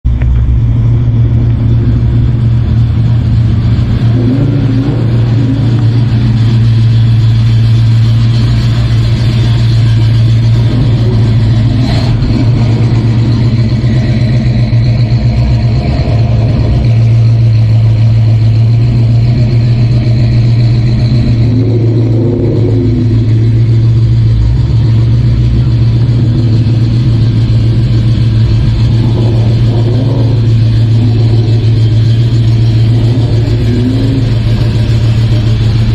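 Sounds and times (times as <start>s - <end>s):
pickup truck engine running: 0.0s - 35.9s.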